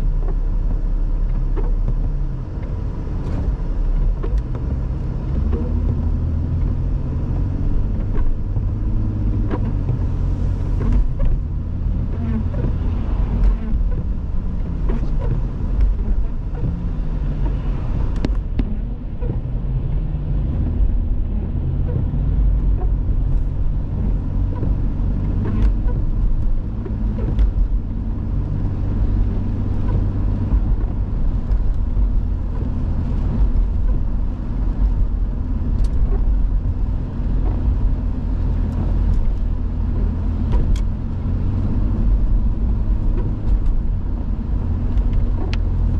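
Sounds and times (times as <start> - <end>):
car engine and road rumble: 0.0 - 45.9
faint clicks and knocks: 0.2 - 45.9.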